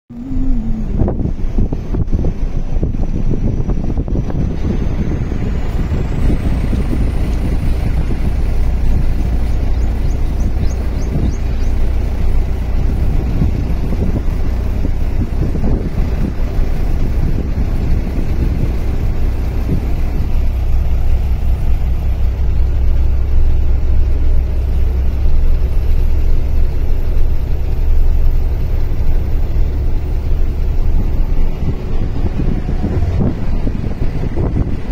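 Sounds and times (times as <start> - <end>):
road and wind noise inside vehicle: 0.1 - 34.9.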